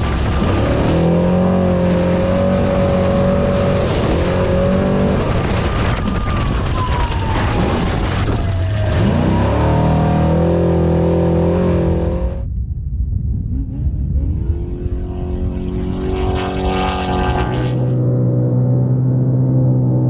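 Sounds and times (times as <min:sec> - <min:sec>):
truck engine at high revs: 0:00.0 - 0:12.5, 0:13.3 - 0:20.0.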